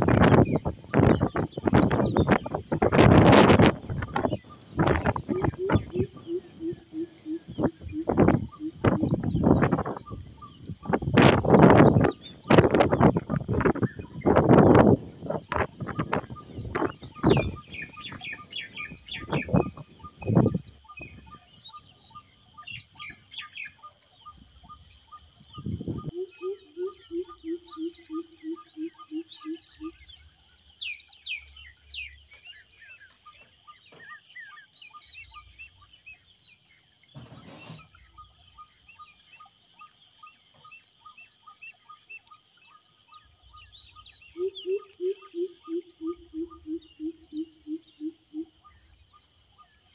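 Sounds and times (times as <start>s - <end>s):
birds chirping: 0.0s - 49.9s
low repeated bird calls: 0.0s - 49.9s.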